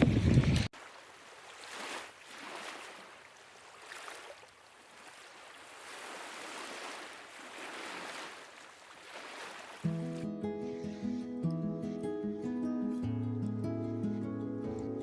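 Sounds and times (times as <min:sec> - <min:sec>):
small waves washing on shore: 0:00.0 - 0:12.4.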